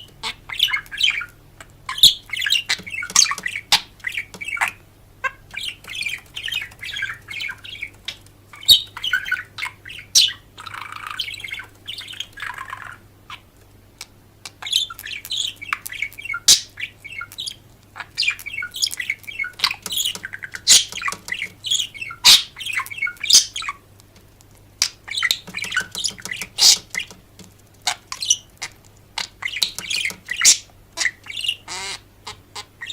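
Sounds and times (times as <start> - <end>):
birds chirping and squawking: 0.0 - 23.9, 24.8 - 32.9.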